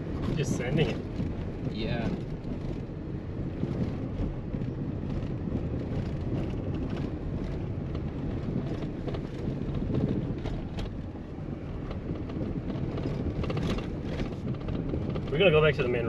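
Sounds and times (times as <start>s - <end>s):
vehicle rumbling on gravel road: 0.0s - 16.0s.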